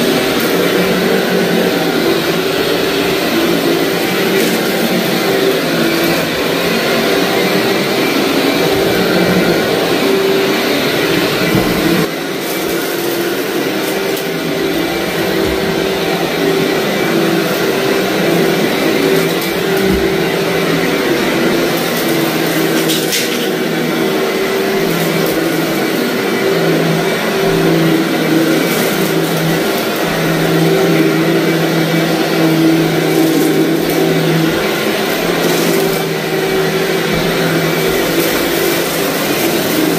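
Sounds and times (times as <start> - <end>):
upright vacuum running: 0.0 - 39.9
vacuum crunching grit: 0.0 - 39.9.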